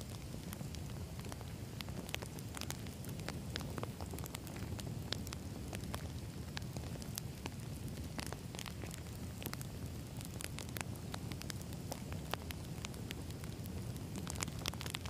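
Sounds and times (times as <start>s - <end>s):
campfire crackling: 0.0s - 15.0s
low rumble of flames: 0.0s - 15.0s.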